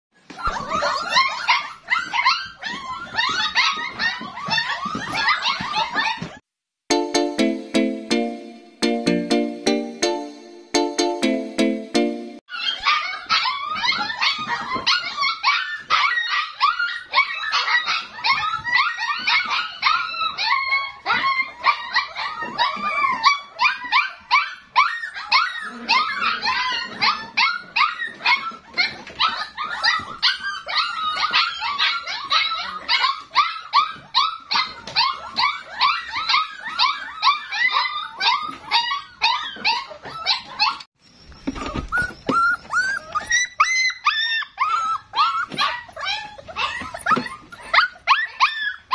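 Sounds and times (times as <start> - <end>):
puppies whining and yelping: 0.2 - 6.4, 12.4 - 48.9.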